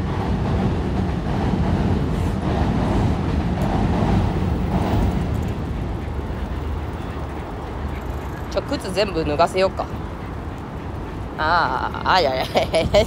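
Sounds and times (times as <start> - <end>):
city background low rumble: 0.0 - 13.0.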